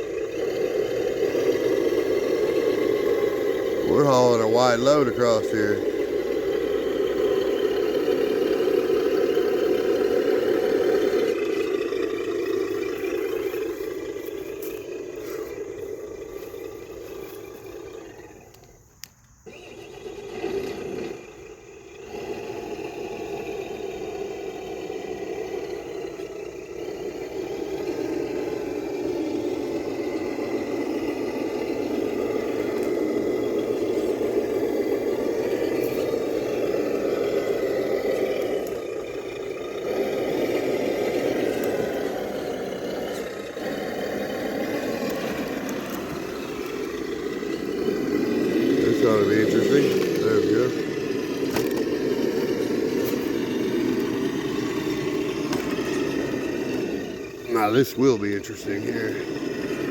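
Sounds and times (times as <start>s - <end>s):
electric motor whirring: 0.0s - 59.9s.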